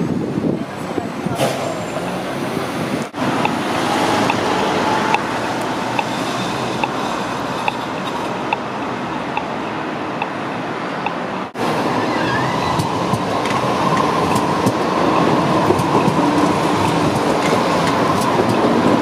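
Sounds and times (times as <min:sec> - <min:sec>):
passing cars: 0:00.0 - 0:19.0
tram rolling along track: 0:00.0 - 0:19.0.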